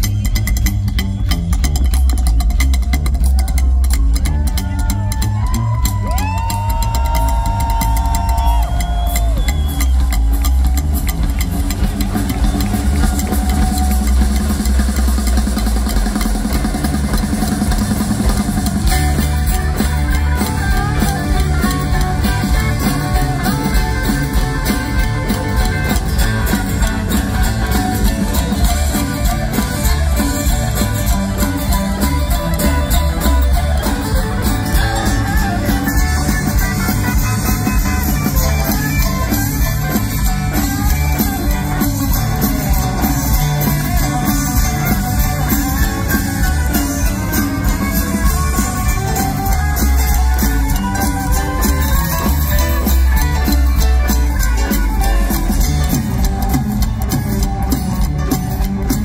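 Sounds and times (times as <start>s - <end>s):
live rockabilly band playing: 0.0s - 59.0s.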